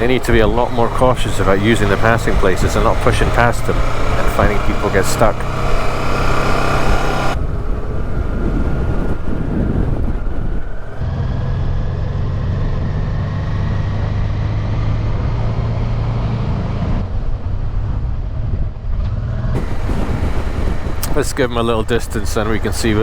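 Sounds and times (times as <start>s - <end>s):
motorcycle engine running: 0.0s - 15.5s, 17.0s - 23.0s
wind and road noise: 0.0s - 23.0s.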